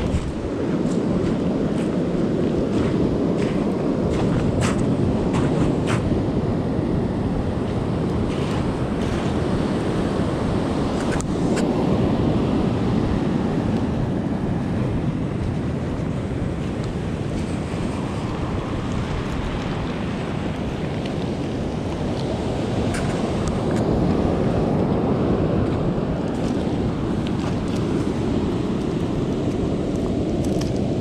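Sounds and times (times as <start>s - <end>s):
ocean surf on beach: 0.0s - 31.0s
wind buffeting microphone: 0.0s - 31.0s.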